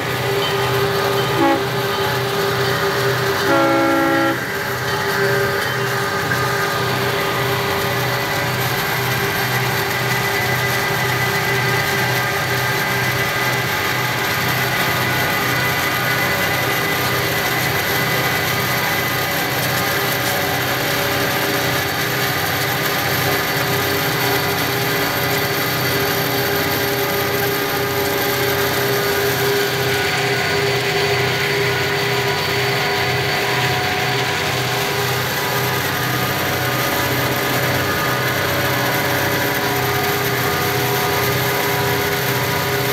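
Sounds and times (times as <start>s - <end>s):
diesel train engine pulsing: 0.0s - 42.9s.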